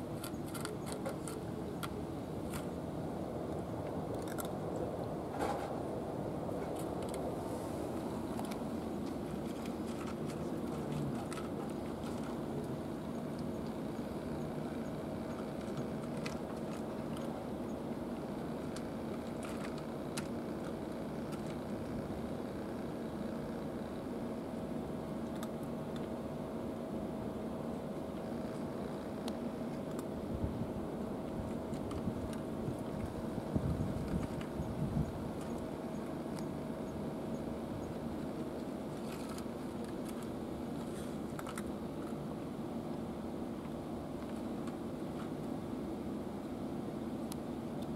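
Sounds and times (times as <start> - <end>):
low background rumble: 0.0 - 47.9
low mechanical hum: 0.0 - 47.9.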